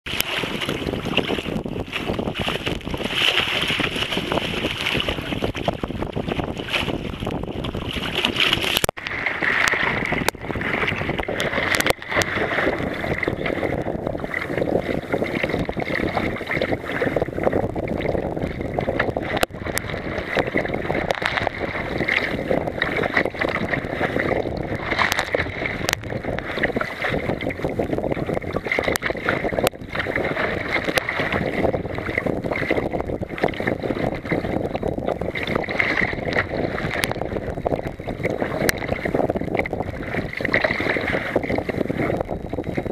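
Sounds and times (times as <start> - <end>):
water splashing over kayak deck: 0.0 - 42.9
wind on microphone: 0.0 - 42.9.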